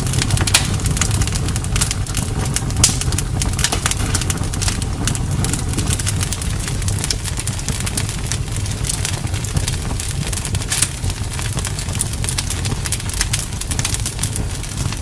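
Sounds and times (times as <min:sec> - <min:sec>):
bonfire rumbling: 0:00.0 - 0:15.0
fire crackles and pops: 0:00.0 - 0:15.0.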